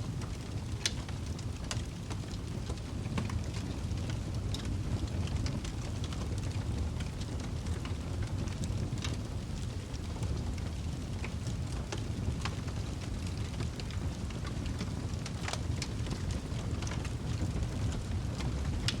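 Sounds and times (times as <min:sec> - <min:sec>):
wood fire burning: 0:00.0 - 0:19.0.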